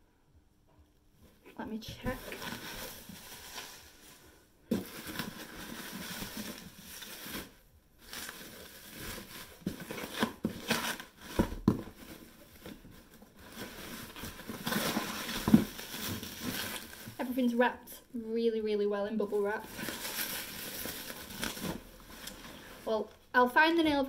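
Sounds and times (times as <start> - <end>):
bubble wrap crinkling: 1.8 - 17.6, 19.1 - 23.4.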